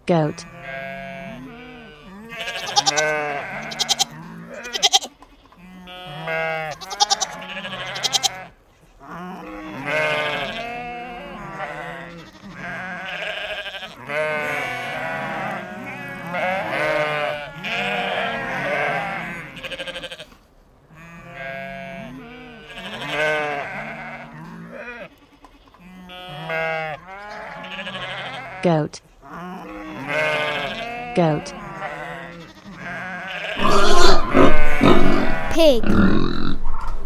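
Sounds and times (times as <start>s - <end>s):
goats bleating: 0.3s - 20.4s, 21.0s - 36.6s.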